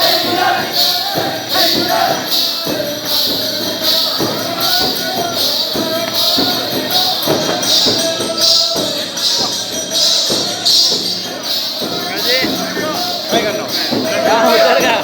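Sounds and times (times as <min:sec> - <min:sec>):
frame drums playing: 0:00.0 - 0:15.0.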